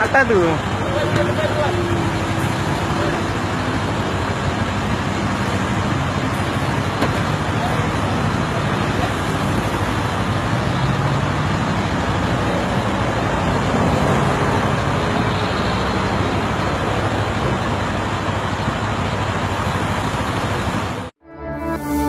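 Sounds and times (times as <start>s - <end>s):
road traffic: 0.0s - 22.0s
vehicle engines humming: 0.0s - 22.0s.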